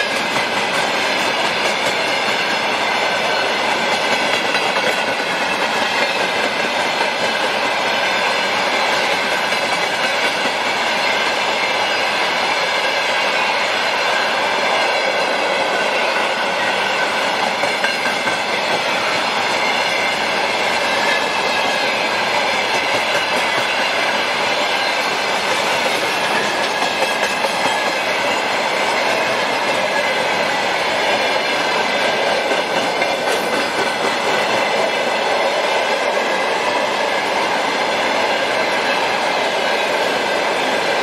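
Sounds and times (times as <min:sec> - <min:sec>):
steel wheels running on rails: 0:00.0 - 0:41.0.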